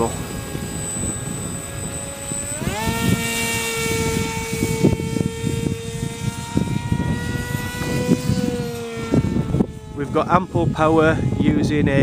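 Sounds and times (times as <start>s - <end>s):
electric motor and propeller whine: 0.0s - 12.0s
wind rumbling on microphone: 0.0s - 12.0s.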